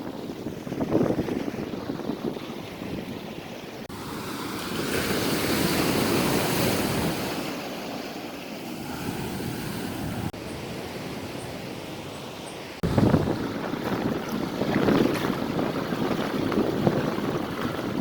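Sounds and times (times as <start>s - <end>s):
ocean surf washing onto beach: 0.0s - 18.0s.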